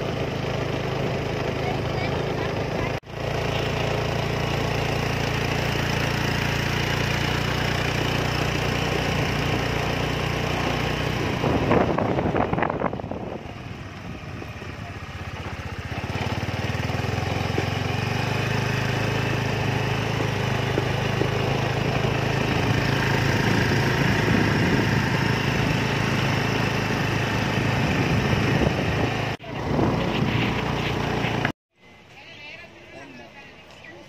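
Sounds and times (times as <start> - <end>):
road and wind noise: 0.0 - 34.0
vehicle engine hum: 0.0 - 34.0.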